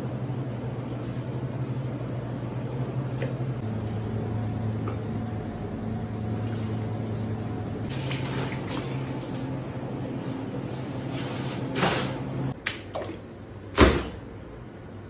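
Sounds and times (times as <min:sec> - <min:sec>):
kitchen hum: 0:00.0 - 0:15.0.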